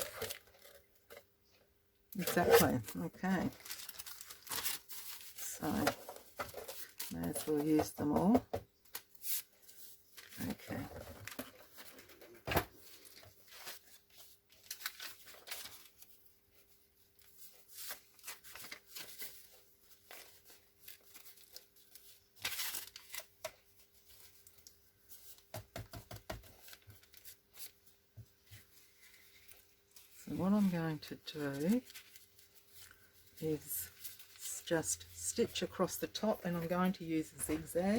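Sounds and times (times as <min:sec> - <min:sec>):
paper rustling: 0:02.2 - 0:07.9, 0:09.0 - 0:25.6, 0:26.4 - 0:37.9.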